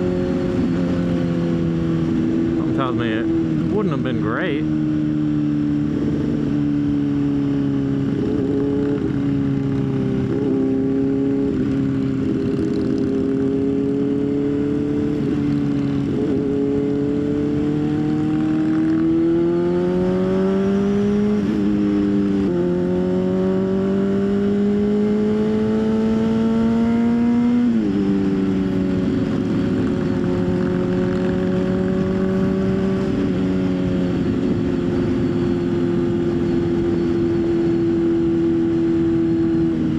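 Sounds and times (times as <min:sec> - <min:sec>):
motorcycle engine accelerating: 0:00.0 - 0:39.9
wind rush: 0:05.1 - 0:39.9.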